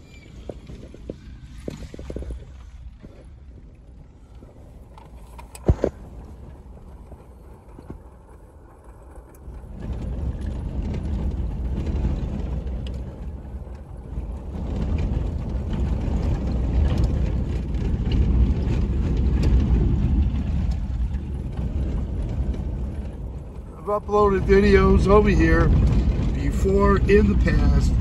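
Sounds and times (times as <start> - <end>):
tyres rumbling on cobblestones: 0.0 - 28.0.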